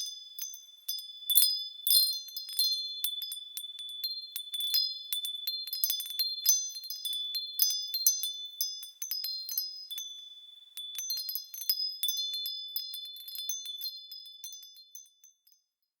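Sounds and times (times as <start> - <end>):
wind chimes ringing: 0.0 - 10.2, 10.8 - 15.6.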